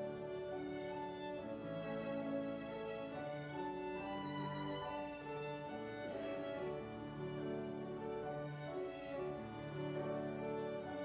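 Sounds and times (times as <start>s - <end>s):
slow bowed string music: 0.0s - 11.0s.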